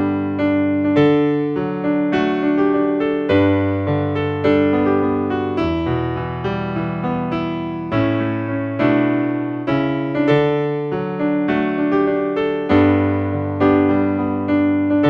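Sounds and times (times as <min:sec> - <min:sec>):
electronic keyboard piano chords: 0:00.0 - 0:15.0.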